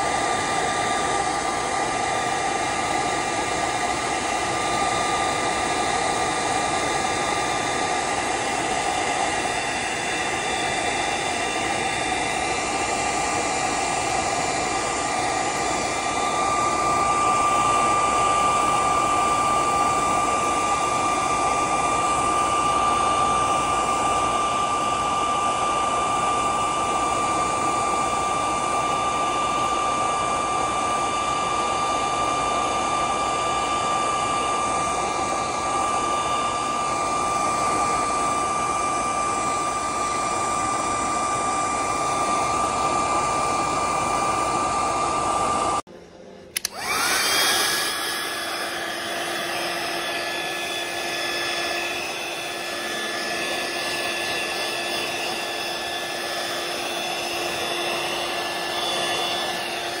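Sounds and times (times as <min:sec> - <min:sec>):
heat gun fan whining: 0:00.0 - 1:00.0.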